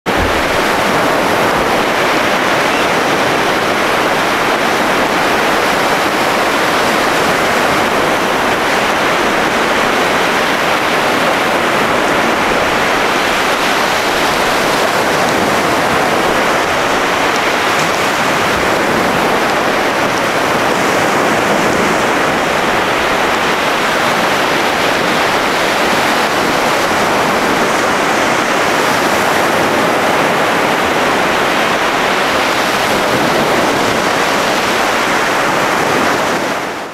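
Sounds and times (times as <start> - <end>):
ocean surf breaking: 0.1 - 36.9.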